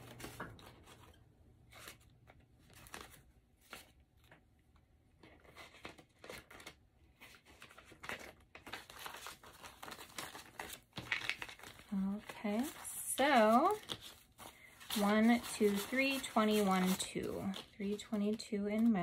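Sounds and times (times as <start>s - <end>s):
paper banknotes rustling: 0.0s - 4.4s, 5.2s - 19.0s.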